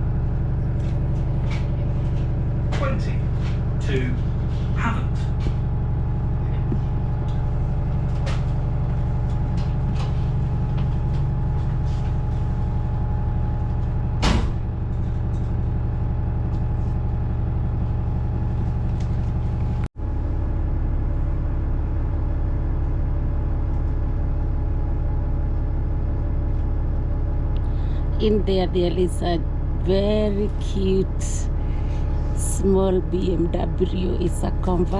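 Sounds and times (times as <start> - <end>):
bus engine droning: 0.0 - 34.9
steady hum: 0.0 - 34.9.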